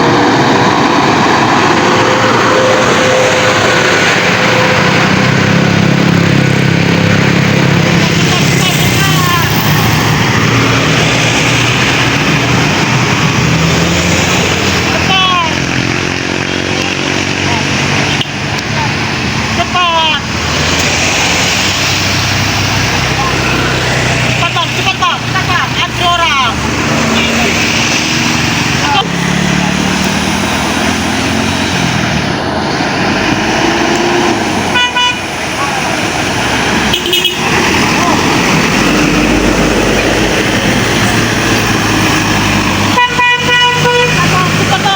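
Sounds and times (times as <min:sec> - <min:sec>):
road noise: 0:00.0 - 0:44.9
vehicle engine running: 0:00.0 - 0:44.9.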